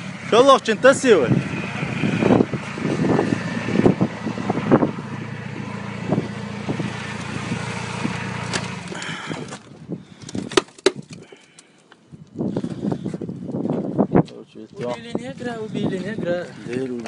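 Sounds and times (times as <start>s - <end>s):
vehicle engine humming: 0.0s - 14.2s.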